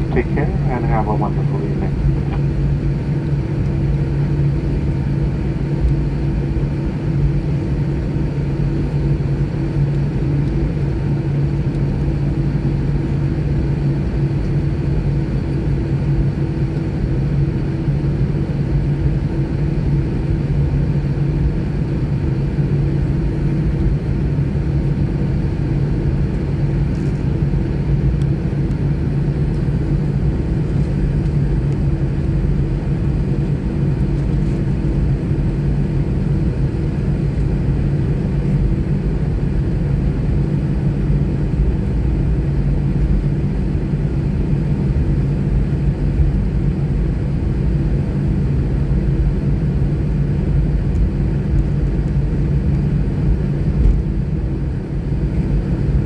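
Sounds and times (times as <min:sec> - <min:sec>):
jet engines idling in cabin: 0:00.0 - 0:56.0.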